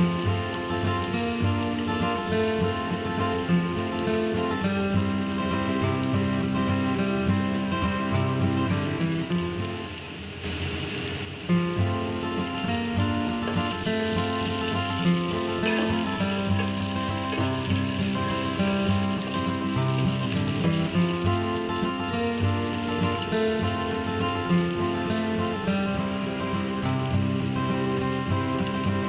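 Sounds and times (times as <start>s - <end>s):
instrumental music: 0.0s - 10.0s, 11.4s - 29.0s
food sizzling in oil: 0.0s - 29.0s.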